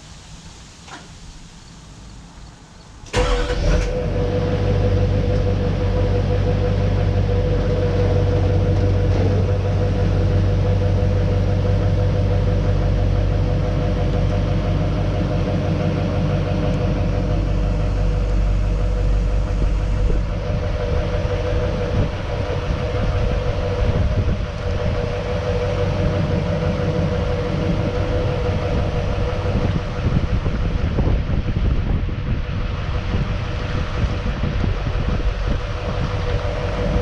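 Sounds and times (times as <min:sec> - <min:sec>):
diesel truck engine rumbling: 0:00.0 - 0:37.0.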